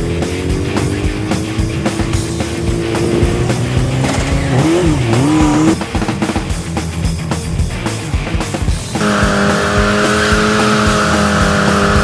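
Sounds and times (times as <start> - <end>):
motorcycle engine revving: 0.0 - 7.2, 8.4 - 12.0
rock music: 0.0 - 12.0.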